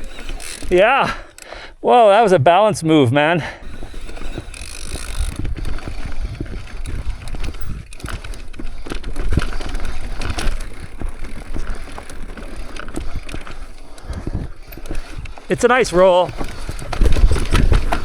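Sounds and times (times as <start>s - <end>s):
bike knocking and rattling: 0.0s - 1.8s, 3.6s - 18.0s.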